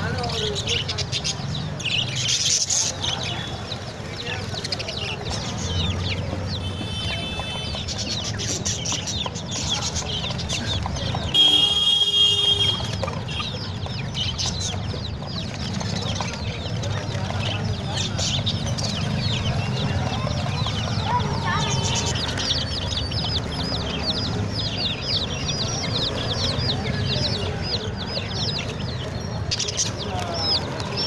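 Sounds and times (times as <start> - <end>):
small birds chirping: 0.0 - 31.0
chickens clucking: 2.4 - 11.3, 12.7 - 31.0.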